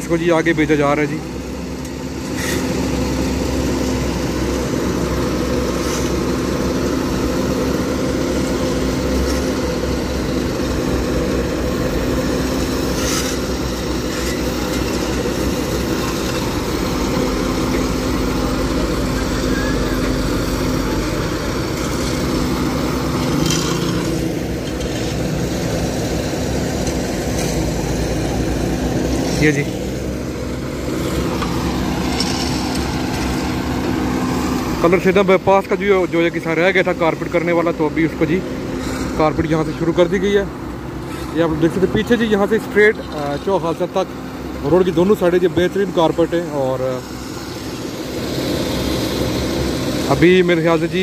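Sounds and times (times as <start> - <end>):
heavy diesel engines rumbling: 0.0 - 51.0.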